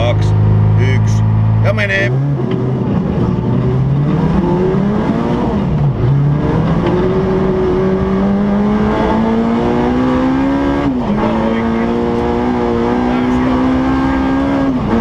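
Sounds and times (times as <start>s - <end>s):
car engine accelerating hard: 0.0s - 15.0s
tyre and road noise: 0.0s - 15.0s.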